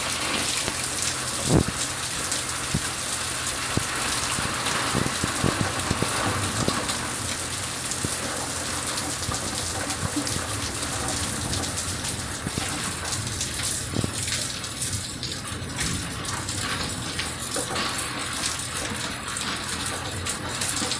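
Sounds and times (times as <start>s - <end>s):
heavy rain pouring: 0.0s - 20.9s
raindrops striking close by: 0.0s - 20.9s.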